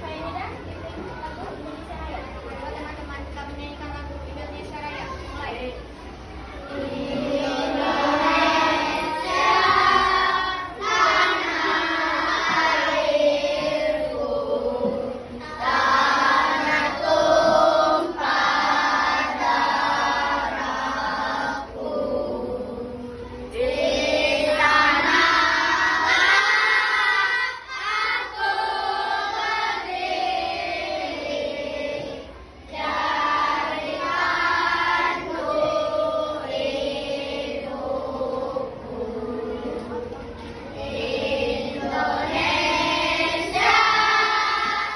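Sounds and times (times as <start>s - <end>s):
children singing together: 5.9s - 44.9s.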